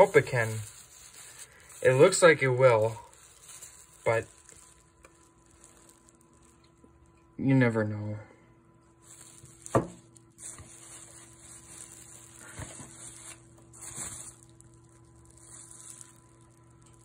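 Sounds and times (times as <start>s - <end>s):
bubble wrap crinkling: 0.0s - 7.3s, 8.8s - 17.0s.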